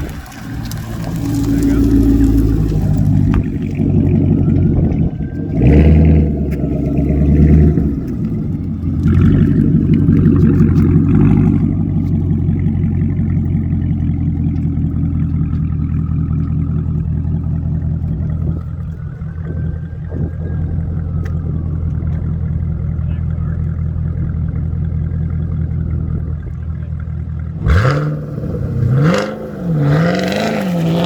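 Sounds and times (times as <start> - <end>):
faint whine: 0.0 - 27.6
engine running: 0.0 - 31.0.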